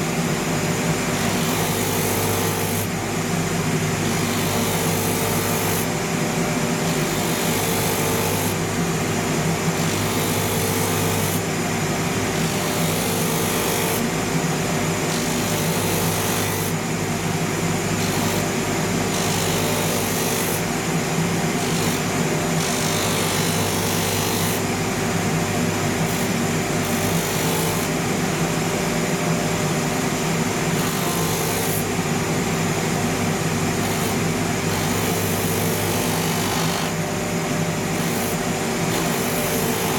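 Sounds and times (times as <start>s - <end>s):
sanding machine motor hum: 0.9s - 28.9s, 29.6s - 39.9s.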